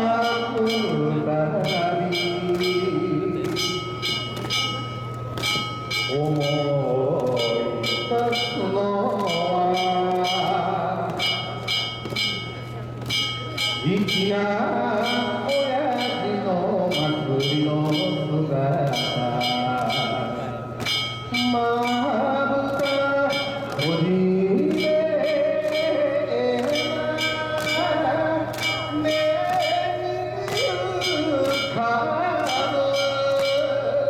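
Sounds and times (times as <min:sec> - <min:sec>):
person singing slow song: 0:00.0 - 0:12.3, 0:13.5 - 0:34.0
bell-like percussion beat: 0:00.0 - 0:34.0.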